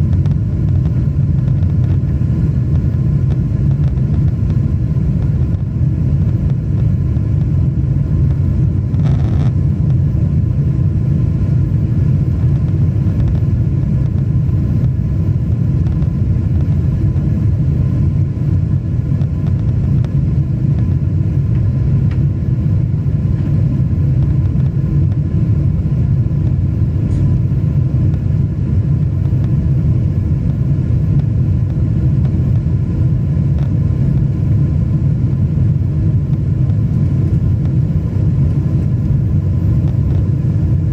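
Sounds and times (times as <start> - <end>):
faint whining tones: 0.0 - 40.9
jet engines rumbling in cabin: 0.0 - 40.9.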